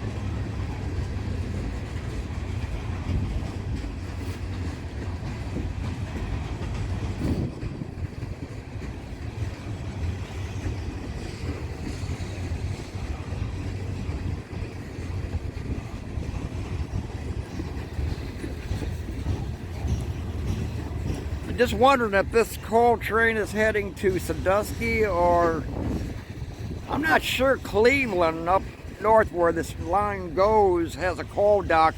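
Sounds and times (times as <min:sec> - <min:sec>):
freight train rumbling past: 0:00.0 - 0:31.9
wheels clicking over rail joints: 0:00.0 - 0:31.9.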